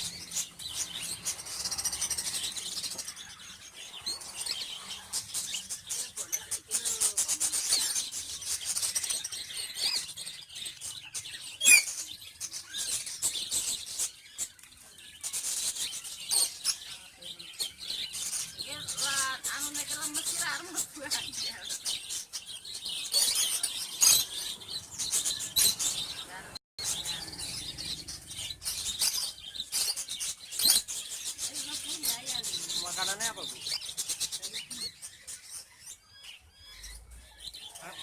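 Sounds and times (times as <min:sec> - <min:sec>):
baby birds chirping: 0:00.0 - 0:38.0.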